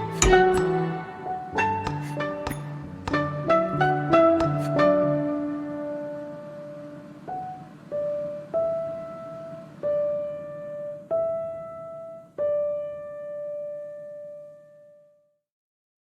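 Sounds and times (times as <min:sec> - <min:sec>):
slow piano notes: 0:00.0 - 0:15.2.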